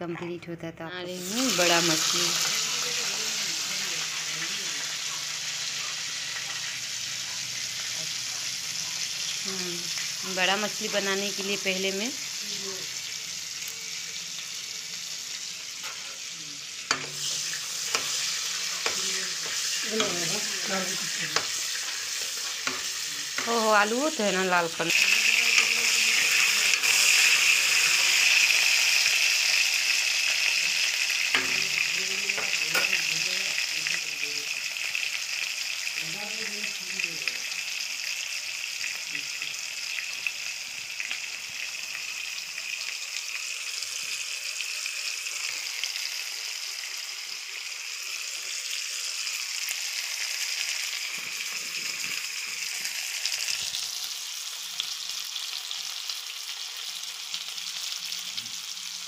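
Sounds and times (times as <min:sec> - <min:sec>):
food sizzling in hot oil: 0:01.0 - 0:59.0.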